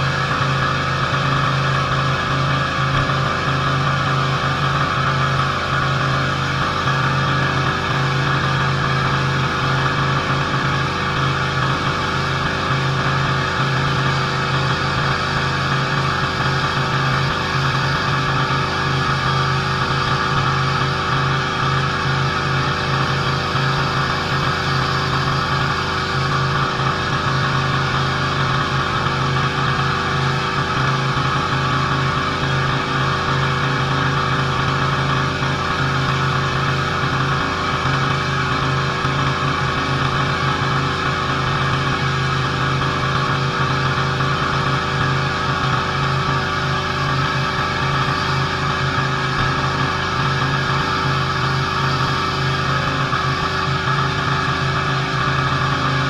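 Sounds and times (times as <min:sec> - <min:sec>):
pressure washer engine running: 0:00.0 - 0:56.0.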